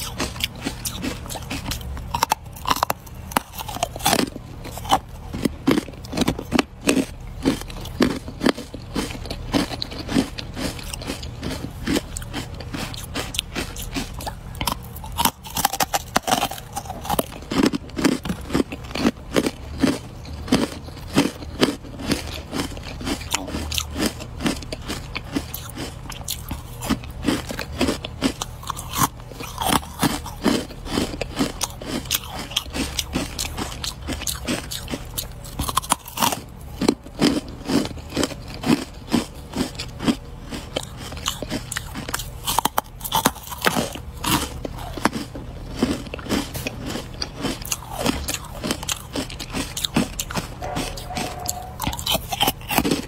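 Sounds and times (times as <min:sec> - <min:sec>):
ice being chewed: 0:00.0 - 0:53.0.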